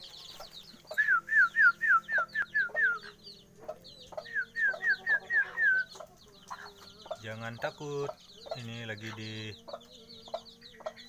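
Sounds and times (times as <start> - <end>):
chicks peeping loudly: 0.0 - 11.0
faint high chirps: 0.0 - 11.0.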